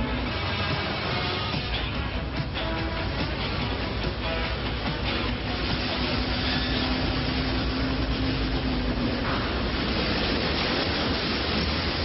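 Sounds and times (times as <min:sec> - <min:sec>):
boat engines running: 0:00.0 - 0:12.0
rush of water spray: 0:00.0 - 0:12.0.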